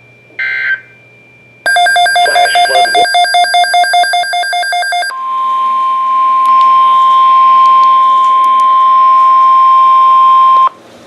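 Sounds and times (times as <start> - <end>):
loud steady alarm tone: 1.7 - 10.7
rapid pulsing beep: 1.7 - 10.7.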